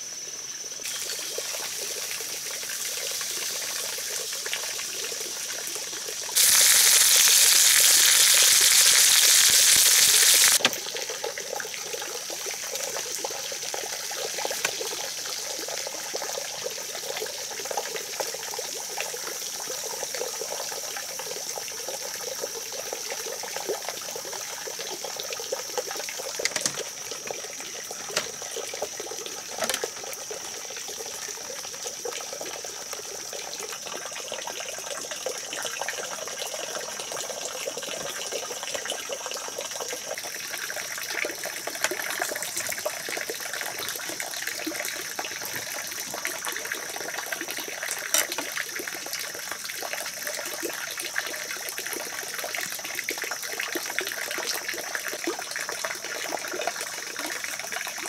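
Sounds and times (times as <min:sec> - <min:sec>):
running water rushing: 0:00.8 - 0:21.6, 0:22.5 - 0:33.9, 0:34.7 - 0:53.4.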